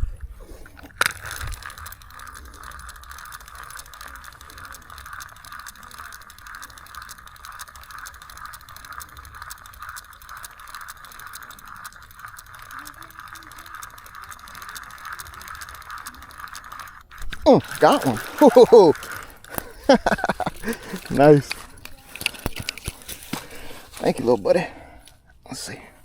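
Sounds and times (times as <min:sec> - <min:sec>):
fishing reel gears clicking: 0:00.0 - 0:25.2.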